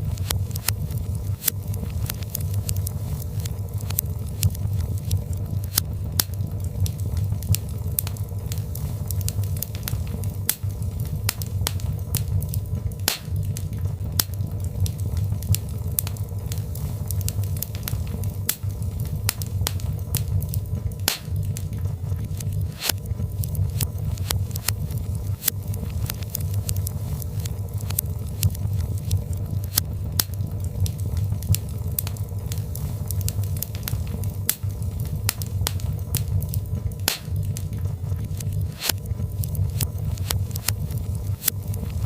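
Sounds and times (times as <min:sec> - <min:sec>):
fire crackling and popping: 0:00.0 - 0:42.0
fire rumbling with crackles: 0:00.0 - 0:42.0.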